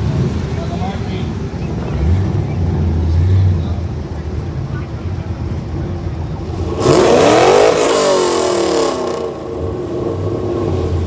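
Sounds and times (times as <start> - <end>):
car engine revving: 0.0 - 11.0
loud exhaust noise: 0.0 - 11.0
low engine rumble: 0.0 - 11.0.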